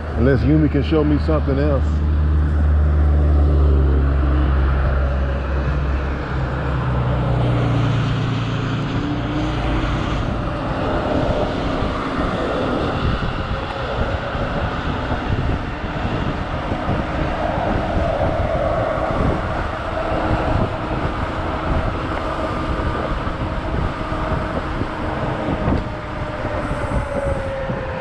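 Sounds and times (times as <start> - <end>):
road noise: 0.0 - 28.0
wind buffeting microphone: 0.0 - 28.0.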